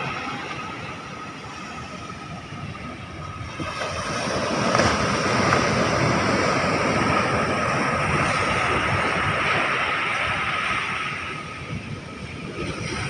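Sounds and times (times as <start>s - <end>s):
surf on the shore: 0.0s - 13.0s
wind noise: 0.0s - 13.0s.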